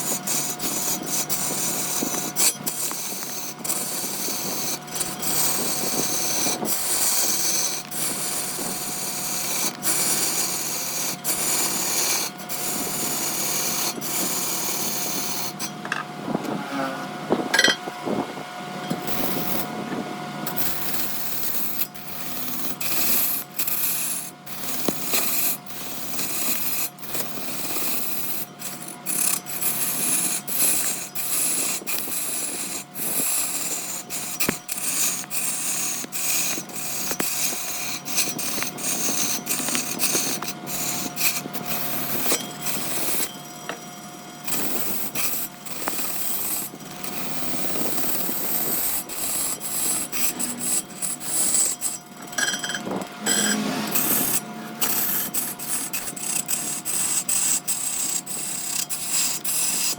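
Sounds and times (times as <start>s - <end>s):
lathe tool rasping on wood: 0.0s - 15.9s, 18.9s - 19.8s, 20.5s - 59.9s
lathe humming: 0.0s - 59.9s.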